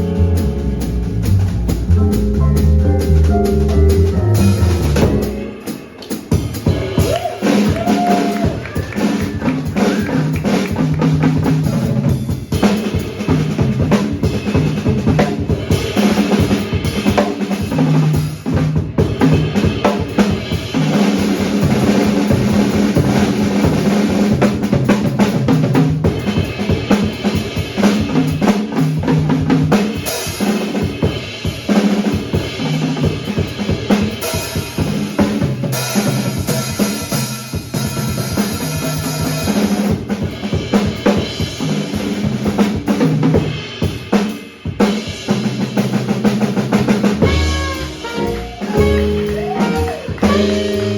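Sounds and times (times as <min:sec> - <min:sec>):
jazz drum kit playing: 0:00.0 - 0:50.9.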